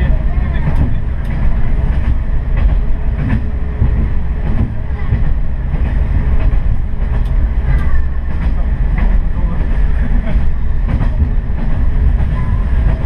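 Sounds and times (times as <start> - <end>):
diesel railcar engine rumble: 0.0 - 13.0
wheels clacking over rails: 0.0 - 13.0.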